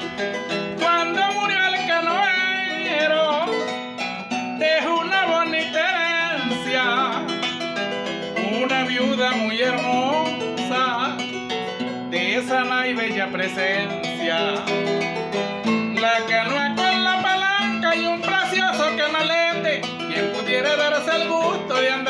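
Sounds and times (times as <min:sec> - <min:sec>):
harp plucking: 0:00.0 - 0:22.0.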